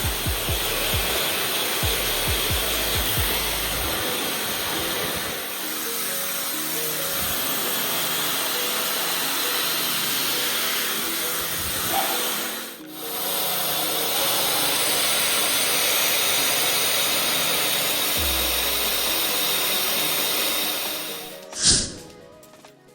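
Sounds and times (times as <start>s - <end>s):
hair dryer running: 0.0s - 21.5s.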